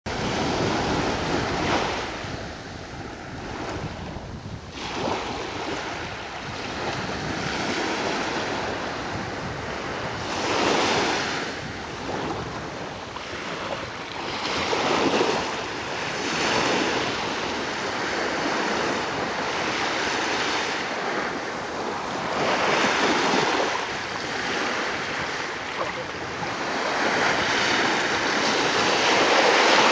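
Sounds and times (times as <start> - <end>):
small waves breaking on beach: 0.1 - 29.9.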